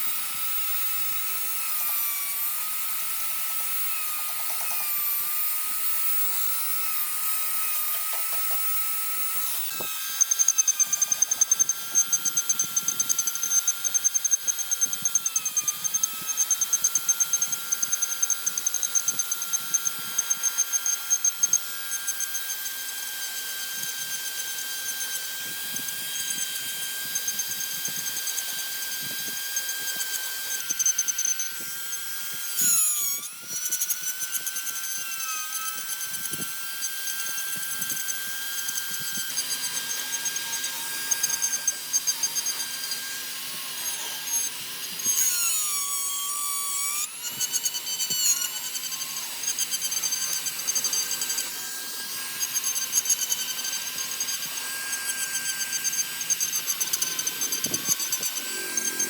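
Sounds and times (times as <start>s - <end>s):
power tool whining on wood: 0.0s - 59.0s.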